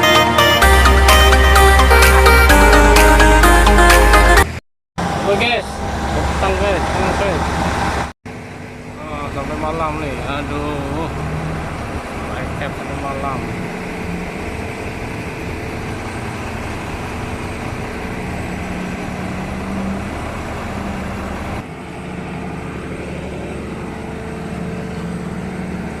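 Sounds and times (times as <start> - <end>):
construction site noise: 0.0 - 26.0
excavator diesel engine: 0.0 - 26.0.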